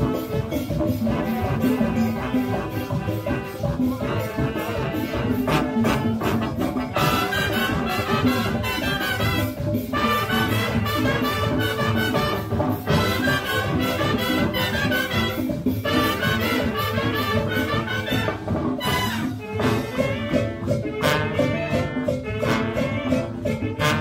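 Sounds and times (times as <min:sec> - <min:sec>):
brass: 0:00.0 - 0:24.0
drums and percussion: 0:00.0 - 0:24.0.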